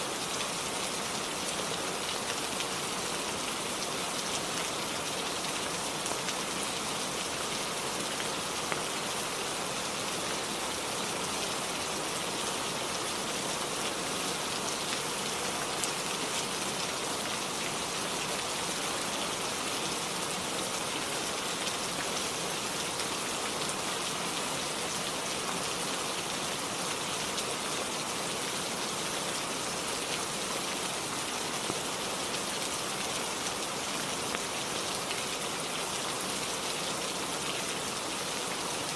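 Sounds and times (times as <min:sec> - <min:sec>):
steady rainfall hiss: 0:00.0 - 0:38.9.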